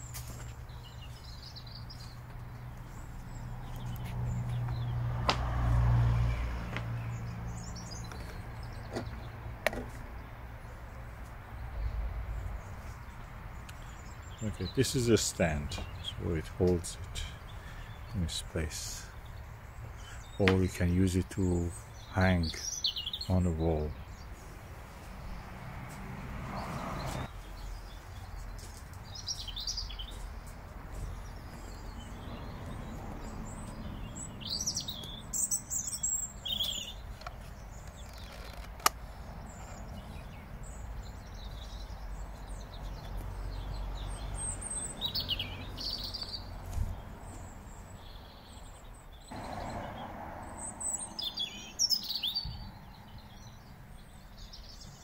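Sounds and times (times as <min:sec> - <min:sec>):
small birds chirping and singing: 0:00.0 - 0:05.0, 0:06.2 - 0:55.0.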